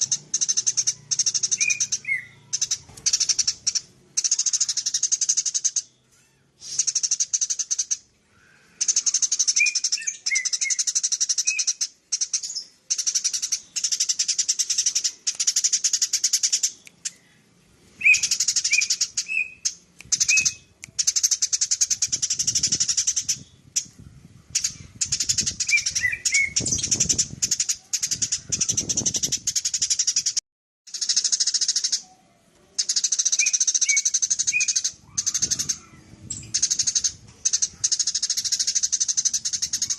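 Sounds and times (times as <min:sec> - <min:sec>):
sparrow chattering: 0:00.0 - 0:05.9, 0:06.6 - 0:17.2, 0:18.0 - 0:39.9
low bird chirps: 0:00.0 - 0:39.9.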